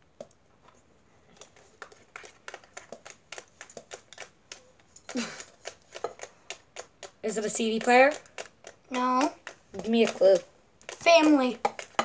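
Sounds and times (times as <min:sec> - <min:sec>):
nails tapping on plastic: 0:01.4 - 0:12.0.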